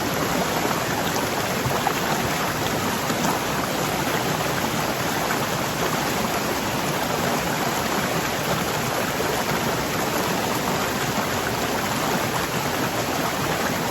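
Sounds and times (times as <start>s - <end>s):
waterfall rushing: 0.0s - 13.9s.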